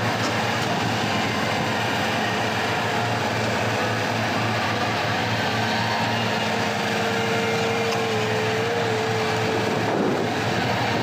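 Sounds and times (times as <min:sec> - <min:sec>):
excavator diesel drone: 0:00.0 - 0:11.0
thin whine: 0:00.0 - 0:11.0.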